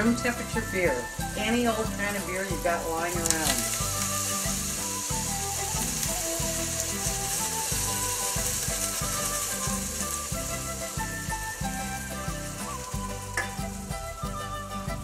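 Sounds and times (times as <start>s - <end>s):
chicken frying in oil: 0.4s - 13.8s.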